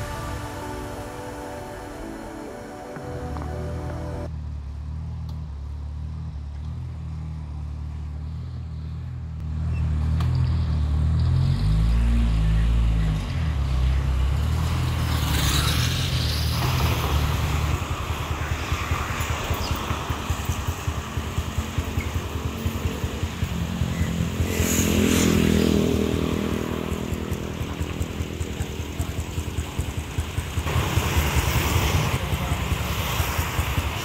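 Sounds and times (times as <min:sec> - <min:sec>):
cars and motorcycles passing: 0:00.0 - 0:34.0.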